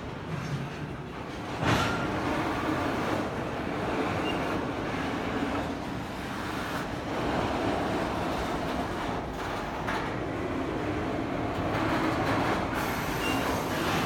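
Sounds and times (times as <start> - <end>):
freight train rumbling on tracks: 0.0 - 14.0.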